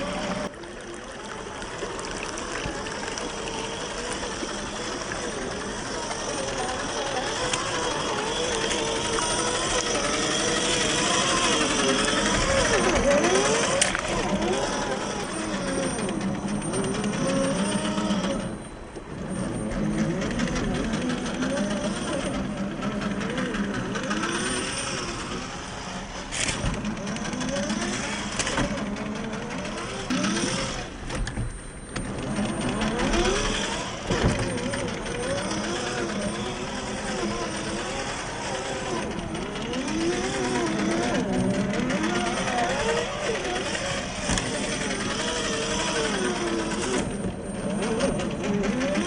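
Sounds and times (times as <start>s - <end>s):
rc car motor whining: 0.0s - 49.0s.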